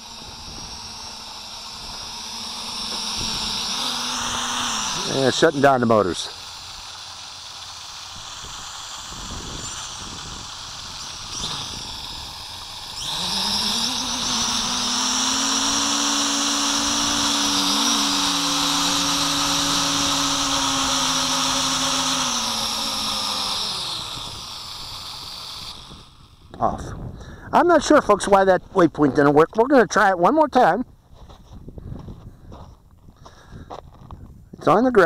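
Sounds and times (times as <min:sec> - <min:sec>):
drone propellers whirring: 0:00.0 - 0:29.6.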